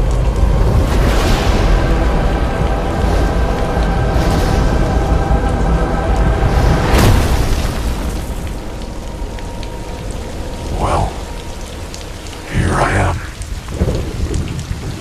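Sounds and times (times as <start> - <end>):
heavy rain on pavement: 0.0 - 15.0.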